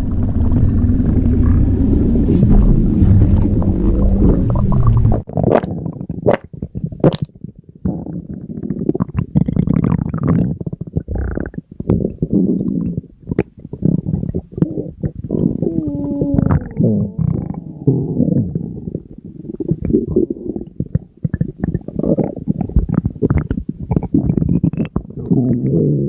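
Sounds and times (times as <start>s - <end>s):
stomach growling and gurgling: 0.0s - 26.0s.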